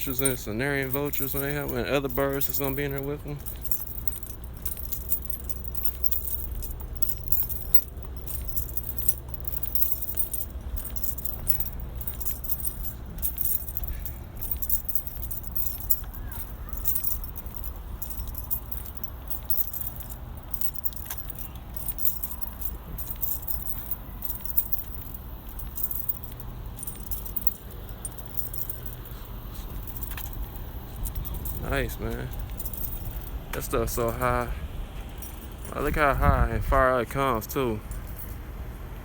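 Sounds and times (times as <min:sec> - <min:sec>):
keys jangling with footsteps: 0:00.0 - 0:38.6
low steady rumble: 0:00.0 - 0:39.0.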